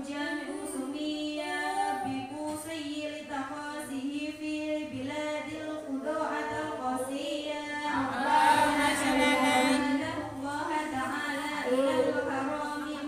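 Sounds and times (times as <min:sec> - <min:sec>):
women chanting together: 0:00.0 - 0:13.0.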